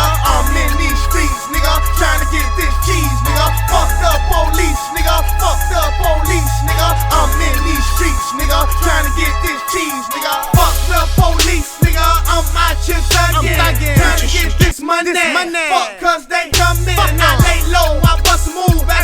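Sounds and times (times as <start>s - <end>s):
hip hop beat: 0.0s - 19.0s.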